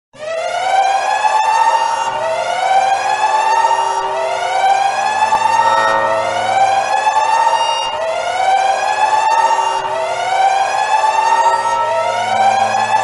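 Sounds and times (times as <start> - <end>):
siren rising sweep: 0.2 - 13.0.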